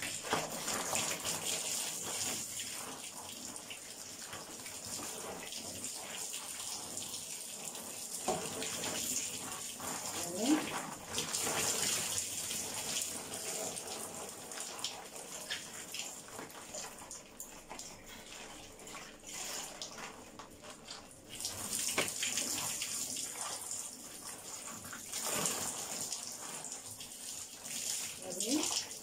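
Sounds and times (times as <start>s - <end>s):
drips on tiled floor: 0.0s - 29.0s
running water splashing: 0.0s - 29.0s.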